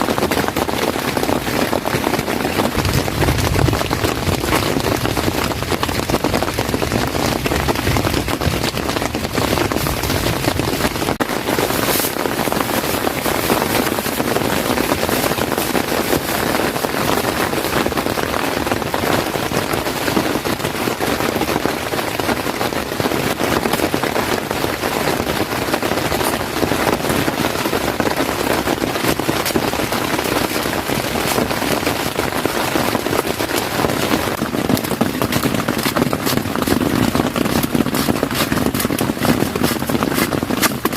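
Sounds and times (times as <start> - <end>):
heavy rain drumming on a tent: 0.0 - 40.9.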